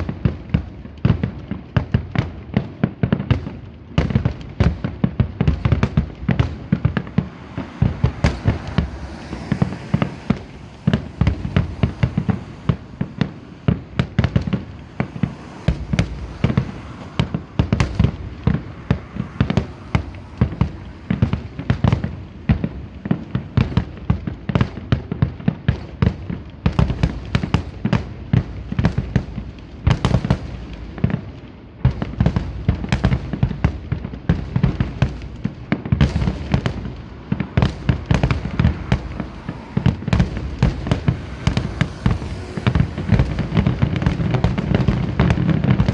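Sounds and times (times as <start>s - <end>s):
fireworks bangs and booms: 0.0s - 45.9s
fireworks crackle: 0.0s - 45.9s.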